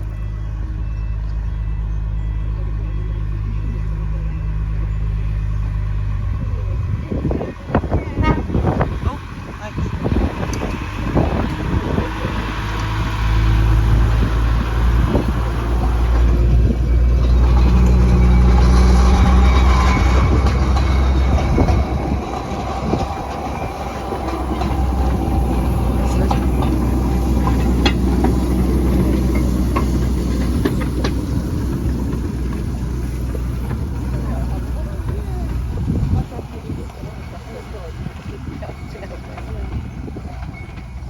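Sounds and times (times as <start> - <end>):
train engine drone: 0.0 - 41.0
train wheels clicking on rails: 7.2 - 41.0.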